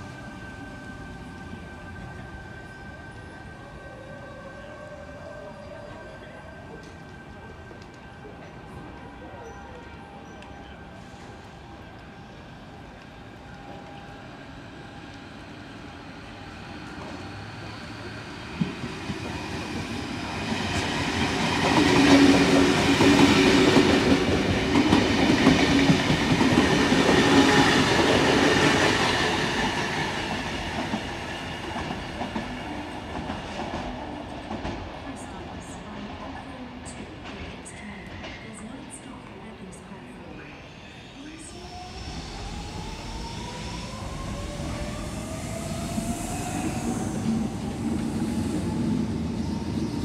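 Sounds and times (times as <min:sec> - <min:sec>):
low steady train hum: 0:00.0 - 0:50.0.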